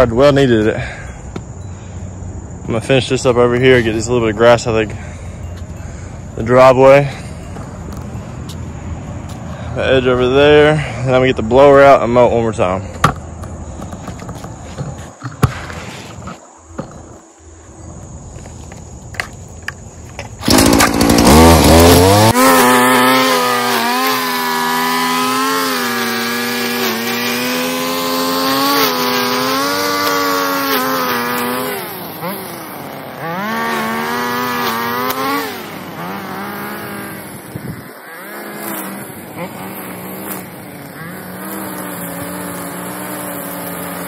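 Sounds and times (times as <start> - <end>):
string trimmer engine whining: 0.0 - 12.8, 18.1 - 44.0.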